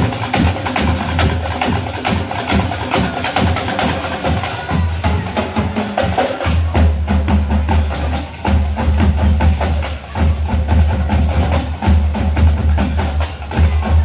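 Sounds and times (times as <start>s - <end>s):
marching band drums: 0.0s - 14.0s.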